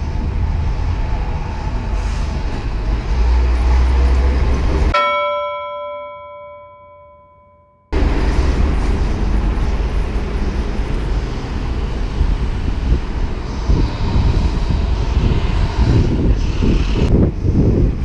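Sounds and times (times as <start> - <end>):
wind rushing over microphone: 0.0 - 5.0, 8.0 - 18.0
city traffic noise: 0.0 - 18.0.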